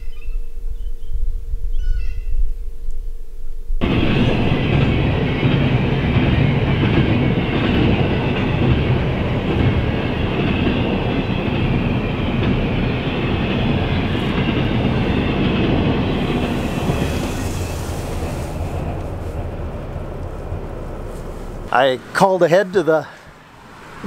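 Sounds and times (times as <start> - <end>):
freight train rolling on rails: 3.8 - 24.0.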